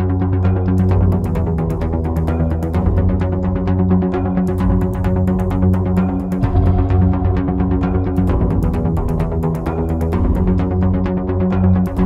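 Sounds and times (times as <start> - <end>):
music with fast beat: 0.6 - 12.0.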